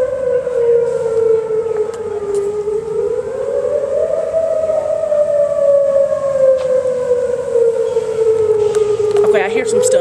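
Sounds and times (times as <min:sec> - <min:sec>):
tornado siren wailing: 0:00.0 - 0:10.0.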